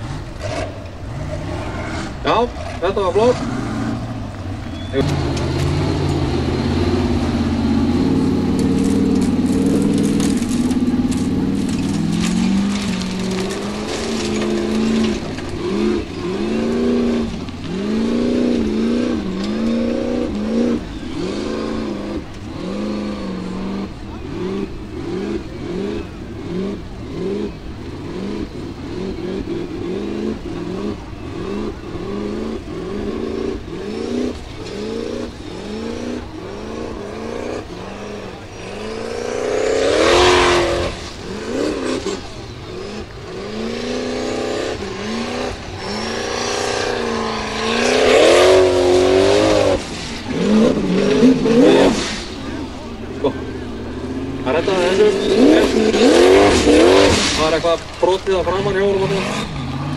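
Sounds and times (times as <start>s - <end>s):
buggy engine revving: 0.0s - 59.9s.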